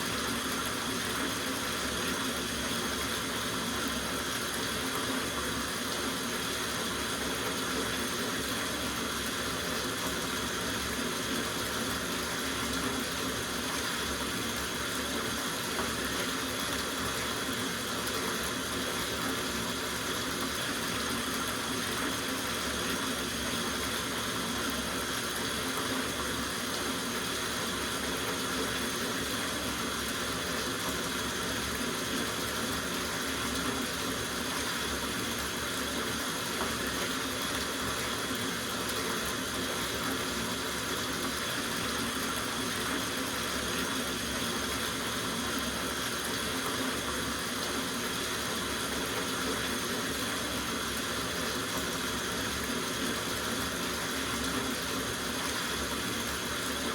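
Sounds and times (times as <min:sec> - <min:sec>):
tap water running into bathtub: 0:00.0 - 0:56.9.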